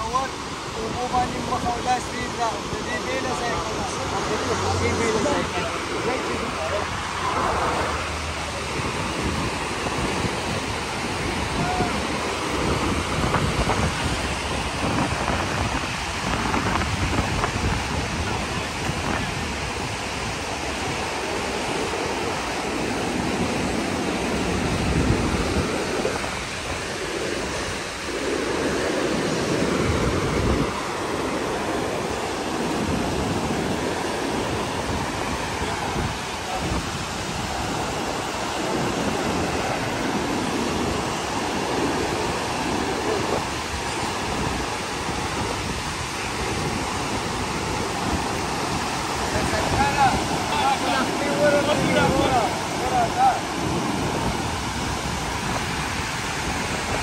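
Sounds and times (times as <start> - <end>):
river rushing over rapids: 0.0 - 57.0
wind gusting on microphone: 0.0 - 57.0.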